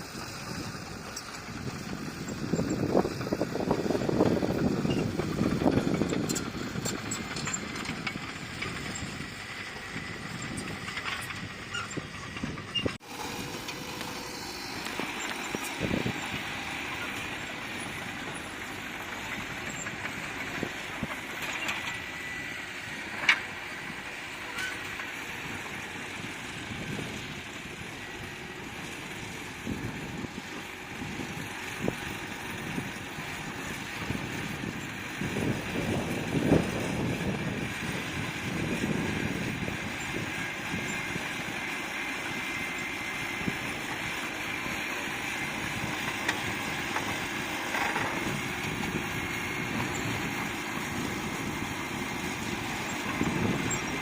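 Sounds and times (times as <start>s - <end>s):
heavy machinery engine: 0.0s - 54.0s.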